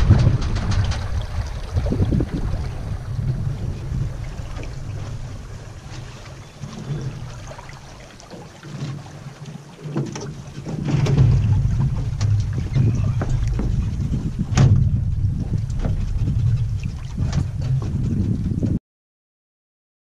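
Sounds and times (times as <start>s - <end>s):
wind buffeting microphone: 0.0s - 9.4s, 10.1s - 18.8s
water slapping against metal float: 0.0s - 18.8s.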